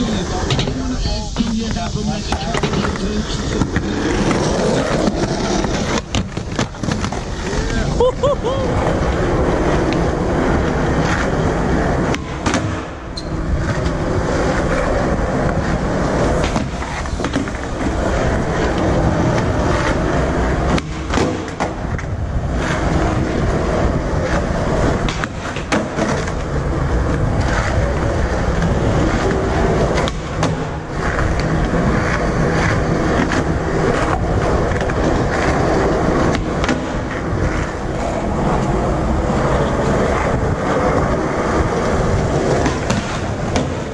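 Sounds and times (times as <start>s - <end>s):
skateboard wheels rolling on concrete: 0.0s - 43.9s.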